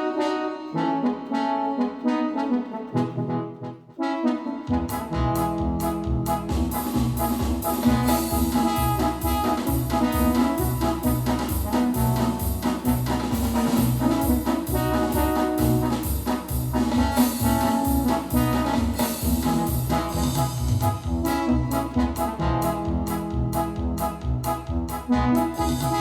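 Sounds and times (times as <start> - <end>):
synthesizer brass chords: 0.0 - 26.0
pulsing low bass note: 5.0 - 26.0.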